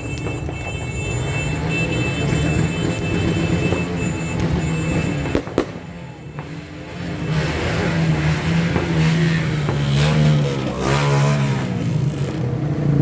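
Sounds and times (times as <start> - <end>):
firecracker bangs: 0.0 - 11.7
firecrackers rumbling: 0.0 - 13.0.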